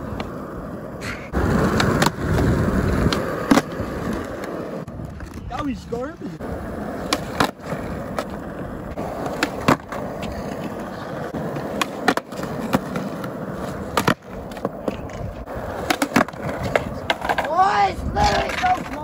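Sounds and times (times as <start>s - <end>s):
skateboard clacking on concrete: 1.3s - 19.0s.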